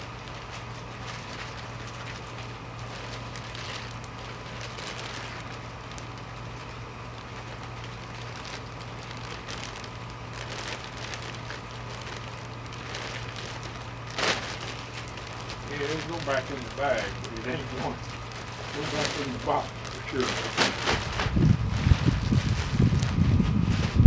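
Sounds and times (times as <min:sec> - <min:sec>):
fabric rustling and crackling: 0:00.0 - 0:24.0
steady low hum: 0:00.0 - 0:24.0.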